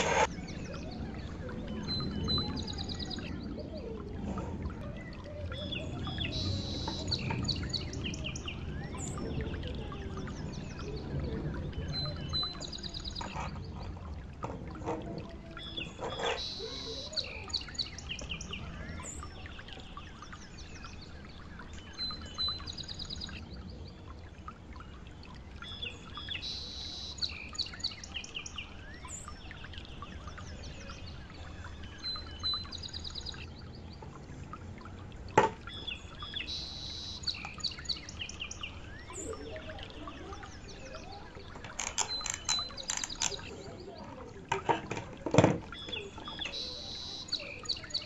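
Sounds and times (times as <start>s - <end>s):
birds chirping and singing: 0.0s - 34.2s, 35.4s - 48.0s.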